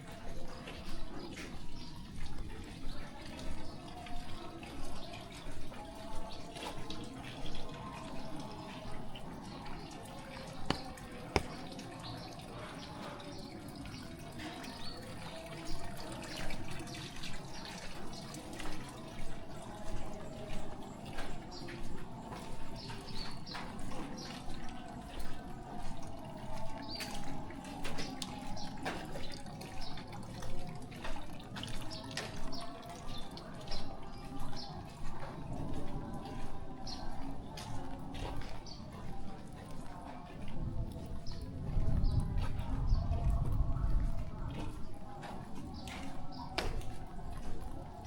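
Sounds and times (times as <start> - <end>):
footsteps splashing on wet road: 0.0 - 12.2, 16.5 - 48.0.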